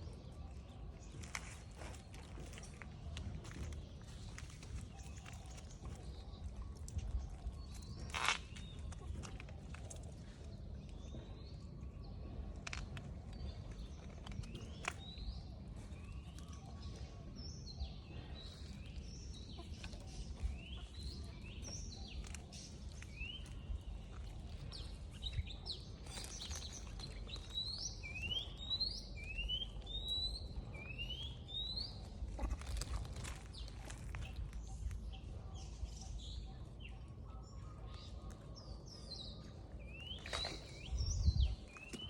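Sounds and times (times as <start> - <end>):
low background rumble: 0.0 - 42.0.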